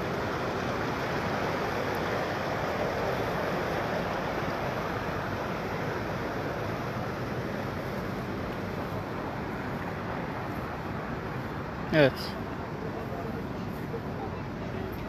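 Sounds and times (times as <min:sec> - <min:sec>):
floodwater rushing: 0:00.0 - 0:14.2.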